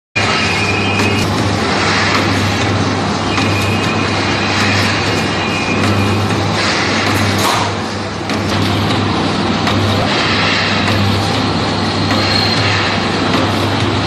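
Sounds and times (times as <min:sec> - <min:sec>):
high whine: 0:00.2 - 0:14.0
machine motor hum: 0:00.2 - 0:14.0.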